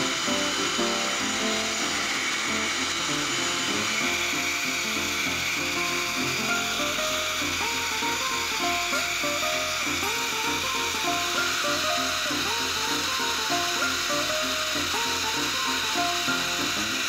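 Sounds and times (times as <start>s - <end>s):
background music: 0.0s - 17.0s
blow dryer rushing hiss: 0.0s - 17.0s.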